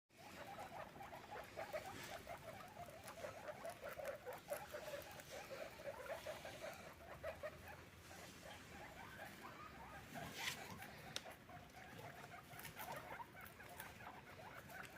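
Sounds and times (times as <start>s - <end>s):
guinea pig squeaking: 0.2s - 14.9s.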